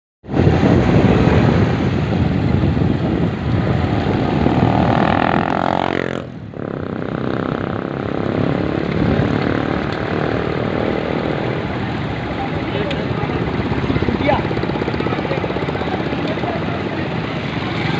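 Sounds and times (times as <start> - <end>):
steady rushing noise: 0.2 - 17.9
vehicle engine revving: 3.3 - 17.9.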